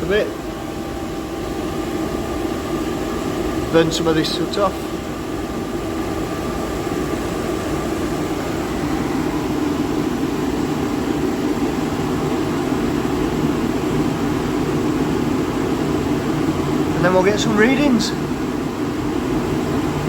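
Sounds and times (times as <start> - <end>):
boiler burner rumbling: 0.0 - 20.0.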